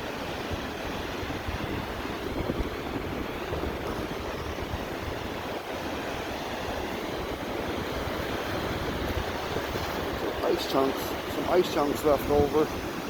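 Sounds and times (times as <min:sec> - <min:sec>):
waves washing on shore: 0:00.0 - 0:13.0
wind buffeting microphone: 0:00.0 - 0:13.0.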